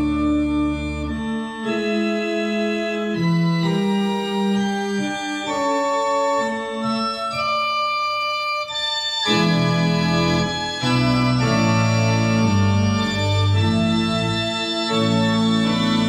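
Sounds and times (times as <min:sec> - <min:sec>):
deep organ pedal note: 0:00.0 - 0:07.7, 0:09.2 - 0:16.0
pipe organ chords: 0:00.0 - 0:16.0.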